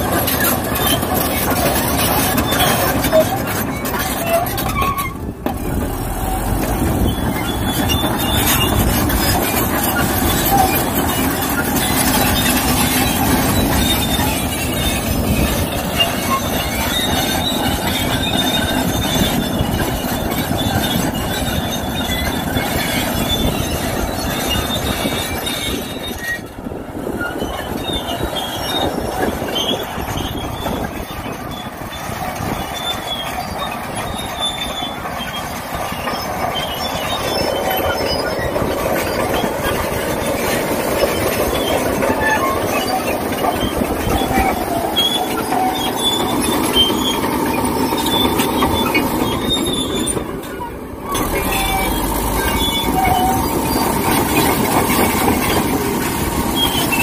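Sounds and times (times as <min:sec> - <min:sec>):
dozer diesel engine running: 0:00.0 - 0:57.0
steel tracks clattering and squealing: 0:00.0 - 0:57.0.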